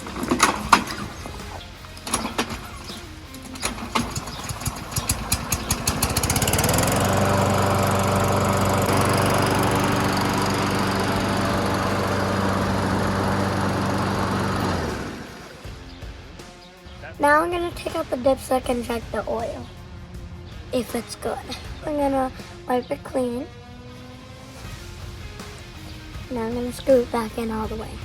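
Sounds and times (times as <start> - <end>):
lawn mower engine starting and running: 0.0 - 18.2, 18.8 - 27.6.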